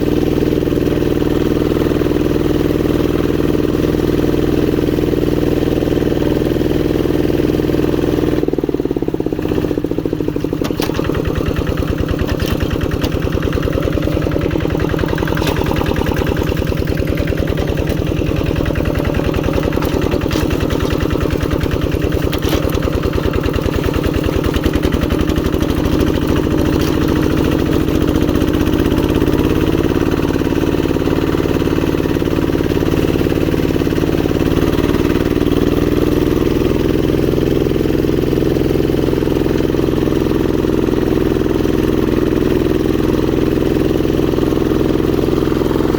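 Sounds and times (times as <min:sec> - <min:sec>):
diesel engine chugging: 0:00.0 - 0:45.9.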